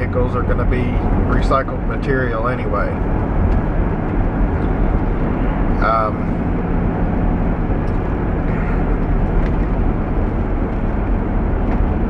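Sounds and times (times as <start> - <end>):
car engine: 0.0 - 12.0
low hum: 0.0 - 12.0
road noise: 0.0 - 12.0.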